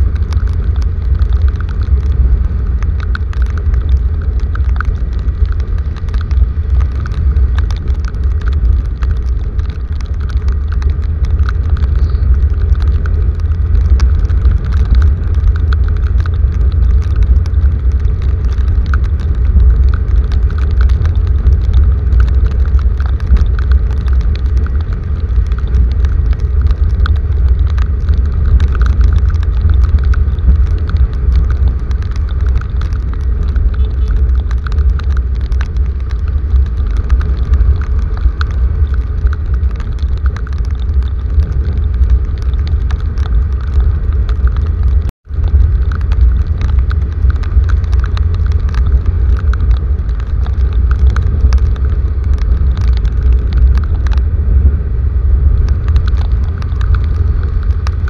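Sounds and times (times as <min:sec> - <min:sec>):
rain drops ticking: 0:00.0 - 0:58.0
steady low rumble: 0:00.0 - 0:58.0.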